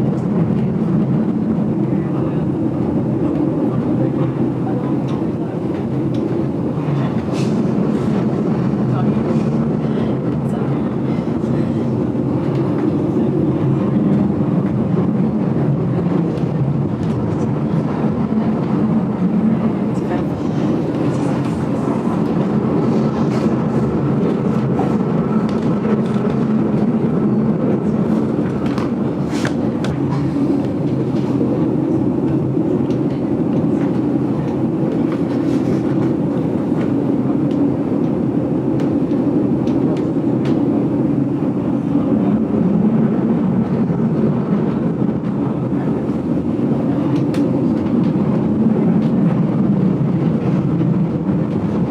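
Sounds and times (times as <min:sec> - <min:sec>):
train rumbling on track: 0:00.0 - 0:51.9.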